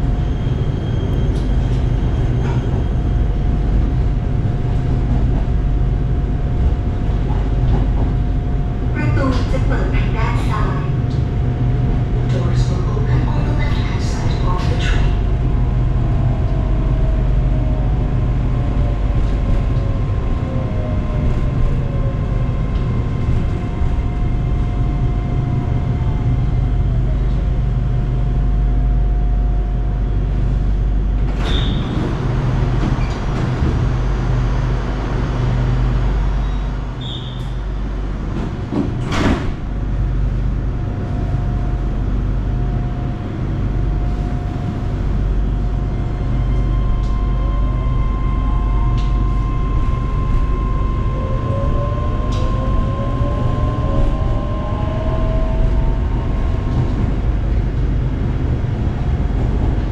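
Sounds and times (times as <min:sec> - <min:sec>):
electric train rumble: 0:00.0 - 0:59.9.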